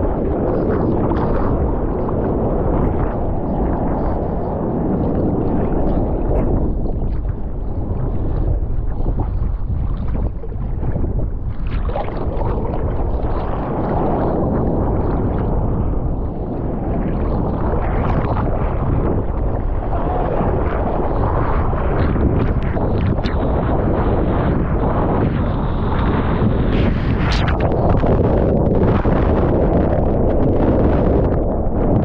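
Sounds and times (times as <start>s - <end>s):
water sloshing and rushing: 0.0s - 32.0s
wind buffeting microphone: 0.0s - 32.0s.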